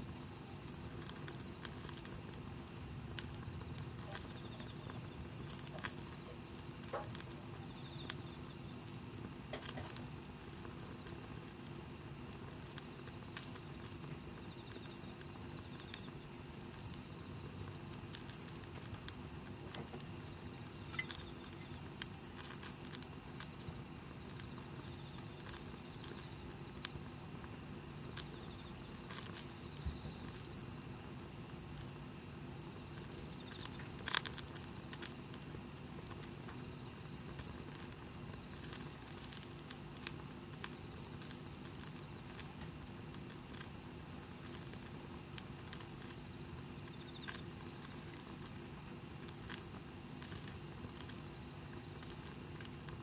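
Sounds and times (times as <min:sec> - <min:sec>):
campfire crackling: 0:00.2 - 0:53.0.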